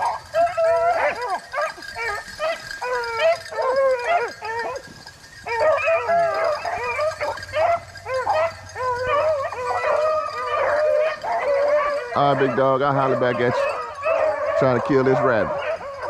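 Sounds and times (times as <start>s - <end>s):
hounds baying and howling: 0.0s - 16.0s.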